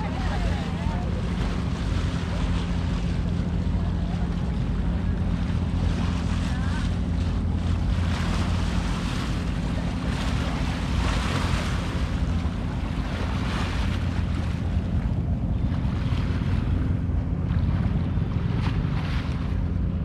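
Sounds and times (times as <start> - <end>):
low mechanical hum: 0.0 - 20.0
wind and water rushing: 0.0 - 20.0.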